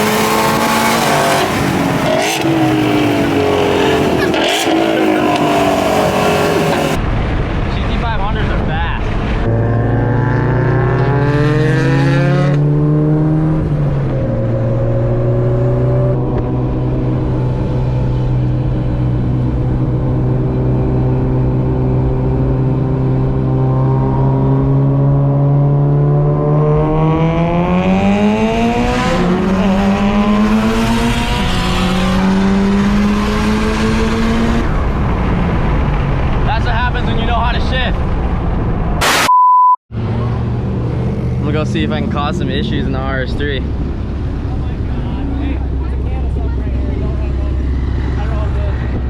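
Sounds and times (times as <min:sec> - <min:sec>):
car engine accelerating and shifting: 0:00.0 - 0:07.7, 0:09.0 - 0:36.5, 0:39.9 - 0:49.0.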